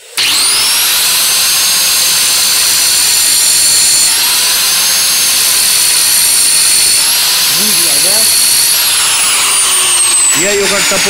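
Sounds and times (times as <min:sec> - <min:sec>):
angle grinder cutting steel: 0:00.0 - 0:11.0.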